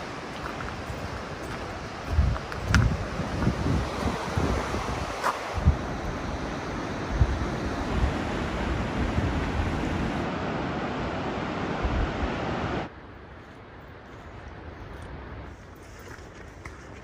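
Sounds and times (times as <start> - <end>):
surf and water rushing: 0.0 - 17.0
wind gusting on microphone: 0.0 - 17.0.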